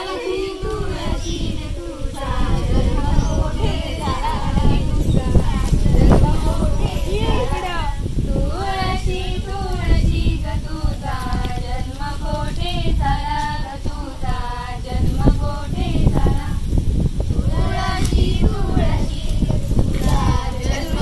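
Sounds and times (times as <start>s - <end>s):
girls and women singing together: 0.0s - 21.0s.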